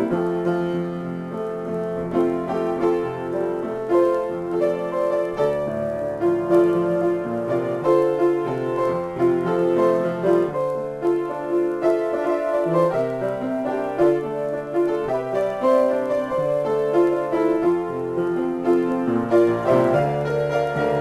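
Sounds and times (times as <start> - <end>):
solo piano improvising: 0.0 - 21.0.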